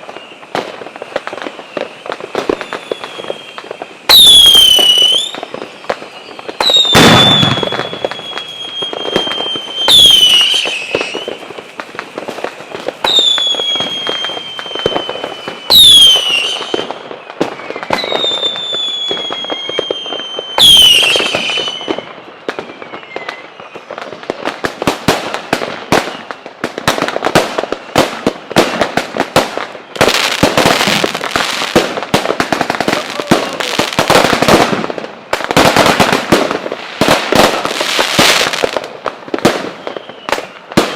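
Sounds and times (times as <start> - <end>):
crackling firework pops and bangs: 0.0 - 40.9
whistling fireworks: 0.0 - 40.9.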